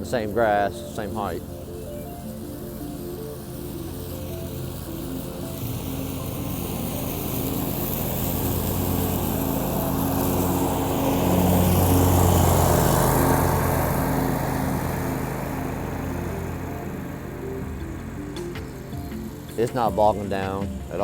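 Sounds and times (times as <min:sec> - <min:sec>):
lawn mower cutting grass: 0:00.0 - 0:21.0.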